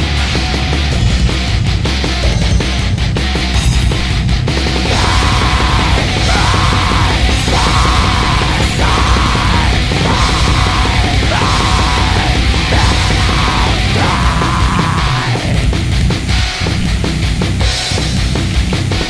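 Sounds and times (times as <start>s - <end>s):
distorted black metal band: 0.0s - 19.0s.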